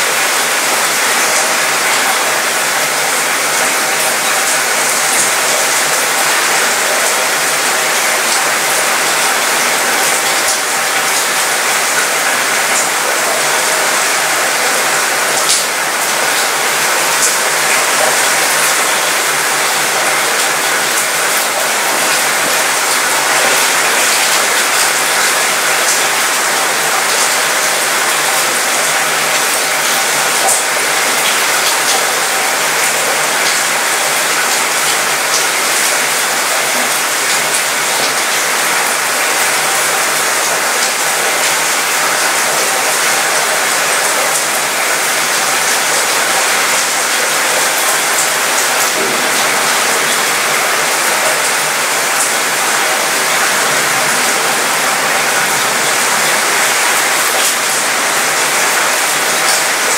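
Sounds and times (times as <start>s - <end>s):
rain pattering on metal: 0.0s - 59.9s.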